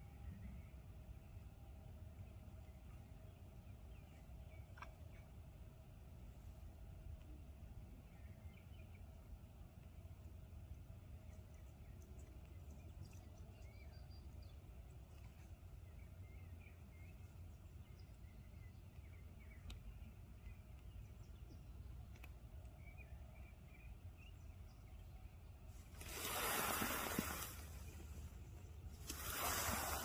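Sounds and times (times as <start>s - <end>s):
low steady rumble: 0.0s - 30.0s
small birds chirping: 0.0s - 30.0s.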